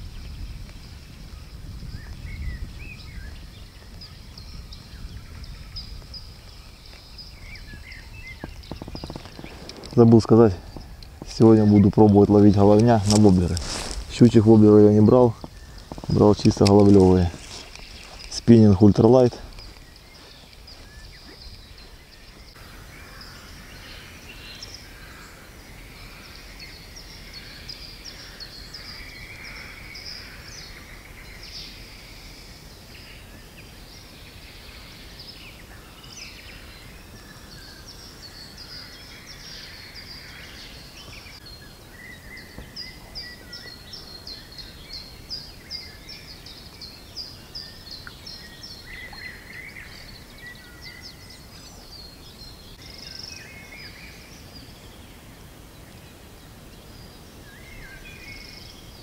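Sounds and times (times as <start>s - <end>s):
faint steady low noise: 0.0s - 59.0s
songbirds singing: 0.0s - 59.0s.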